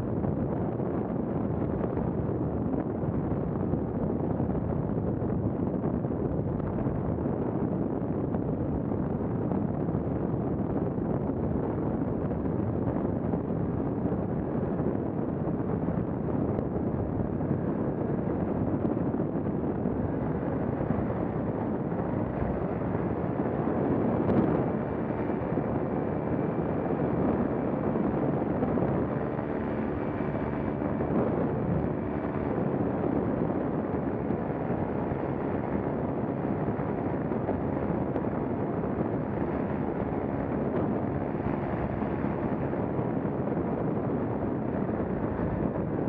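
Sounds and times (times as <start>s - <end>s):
paramotor engine and propeller: 0.0s - 46.0s
wind noise on microphone: 0.0s - 46.0s.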